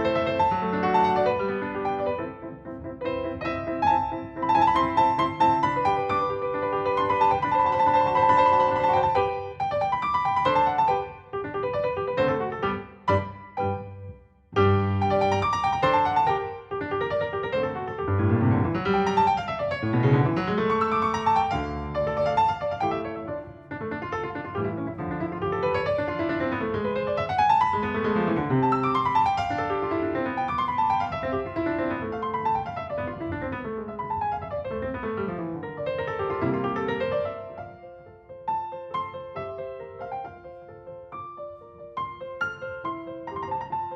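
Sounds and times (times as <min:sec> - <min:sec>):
solo piano playing runs: 0:00.0 - 0:43.9.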